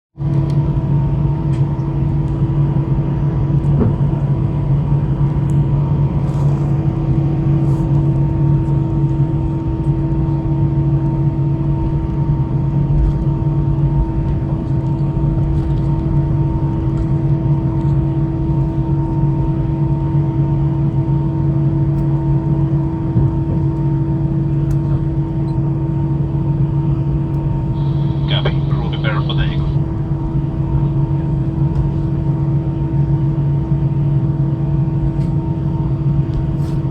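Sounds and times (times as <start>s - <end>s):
aircraft cabin drone: 0.2s - 36.9s.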